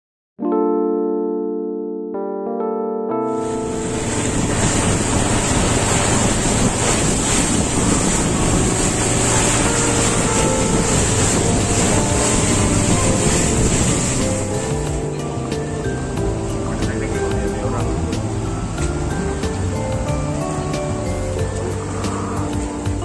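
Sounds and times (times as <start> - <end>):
motorboat engine hum: 3.4 - 23.0
water rushing and splashing: 3.4 - 23.0
wind buffeting microphone: 3.4 - 23.0.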